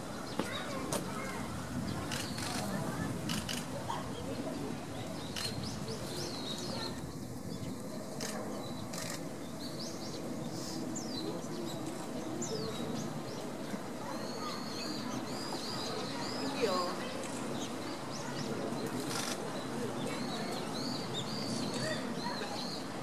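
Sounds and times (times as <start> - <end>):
background murmur: 0.0 - 23.0
small birds chirping: 0.2 - 22.9.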